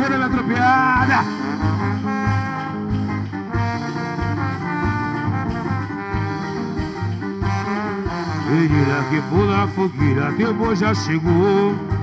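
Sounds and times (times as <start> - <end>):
band playing instrumental music: 0.0 - 12.0
low pulsing beat: 0.0 - 12.0.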